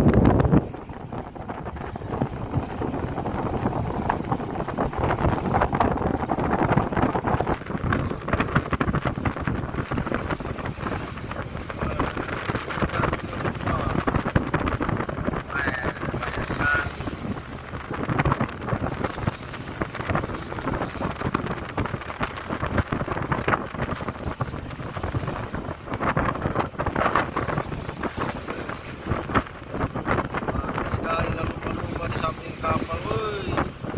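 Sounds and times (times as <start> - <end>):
sea water rushing along hull: 0.0 - 33.9
wind buffeting microphone: 0.0 - 33.9.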